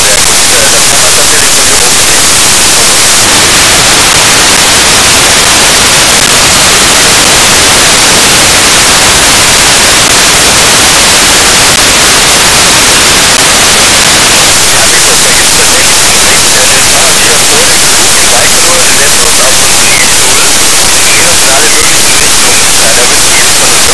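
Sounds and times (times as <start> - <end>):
radio static hiss: 0.0 - 23.9.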